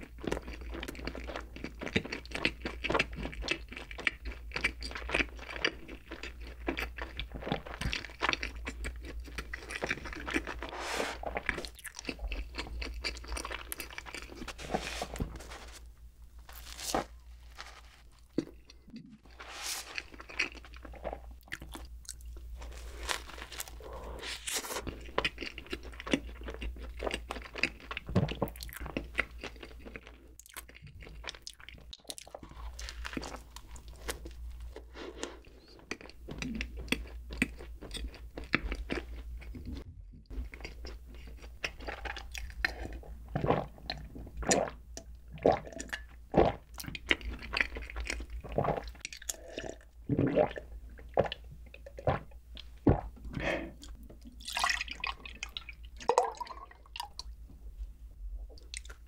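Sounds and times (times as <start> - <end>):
wet chewing: 0.0 - 15.2, 18.2 - 57.3.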